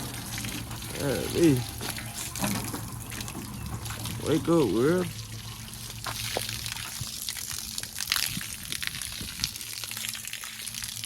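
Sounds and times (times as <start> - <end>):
continuous water hiss: 0.0 - 11.0
water splashing: 0.0 - 11.0.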